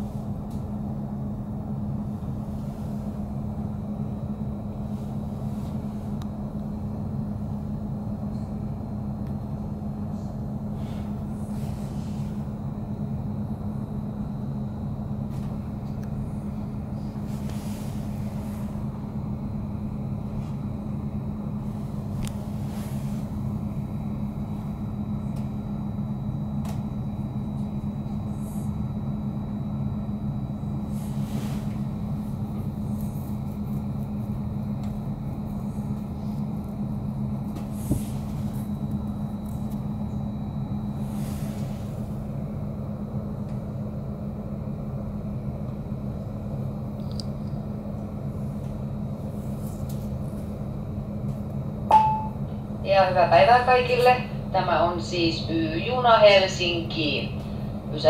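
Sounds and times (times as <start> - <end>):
train ventilation hum: 0.0 - 58.0.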